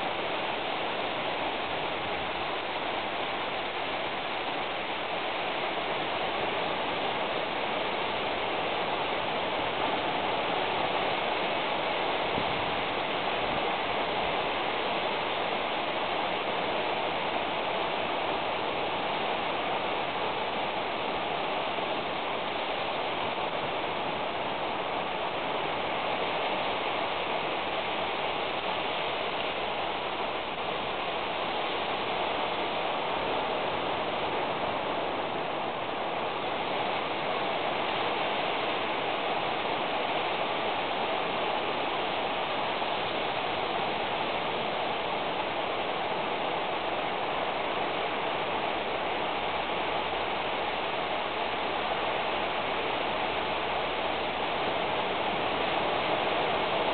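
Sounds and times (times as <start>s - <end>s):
steady hiss: 0.0s - 56.9s.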